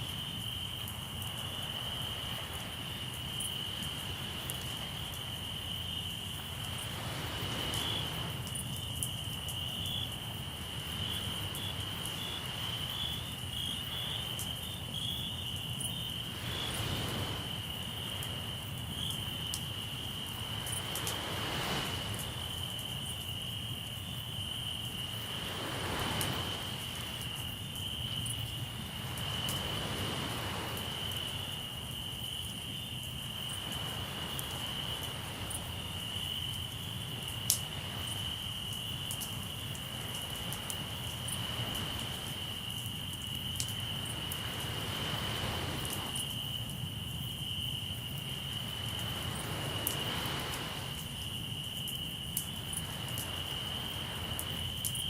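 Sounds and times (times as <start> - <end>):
campfire crackles: 0.0 - 55.0
crickets trilling: 0.0 - 55.0.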